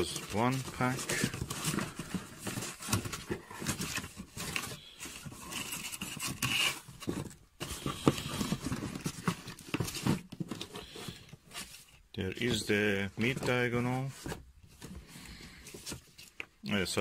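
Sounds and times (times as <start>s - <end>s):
cardboard scraping: 0.0s - 16.4s
plastic bags rustling and knocking: 0.0s - 16.6s.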